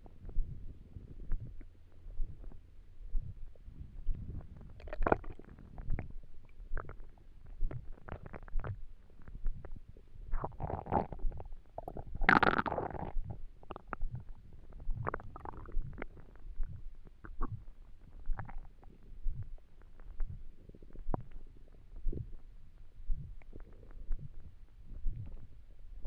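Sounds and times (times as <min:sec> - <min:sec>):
stomach gurgling and rumbling: 0:00.0 - 0:26.0.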